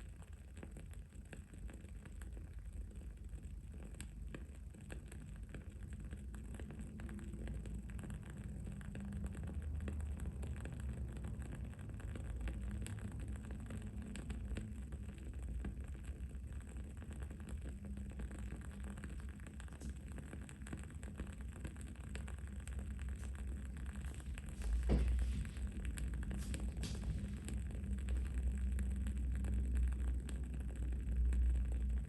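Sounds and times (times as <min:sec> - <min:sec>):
candle crackling: 0:00.0 - 0:32.0
low background rumble: 0:00.0 - 0:32.0.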